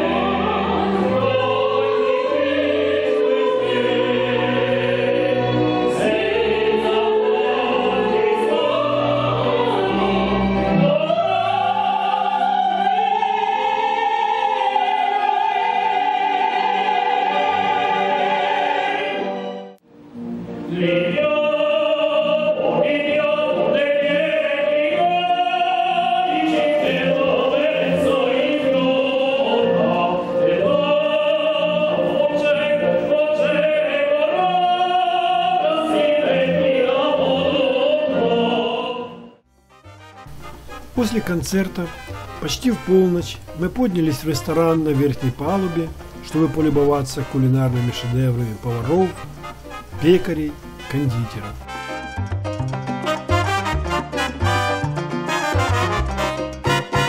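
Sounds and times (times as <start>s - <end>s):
man and woman singing opera: 0.0s - 19.6s, 20.6s - 49.3s
musical accompaniment: 0.0s - 57.0s.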